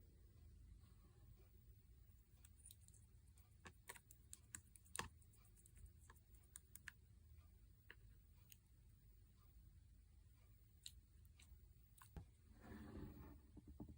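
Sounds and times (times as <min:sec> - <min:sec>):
low room hum: 0:00.0 - 0:13.9.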